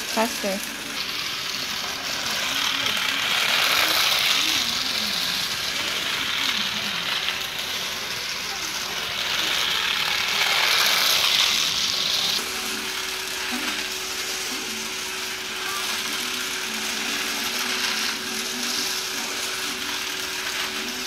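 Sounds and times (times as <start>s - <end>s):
toy car motors whirring: 0.0s - 21.0s.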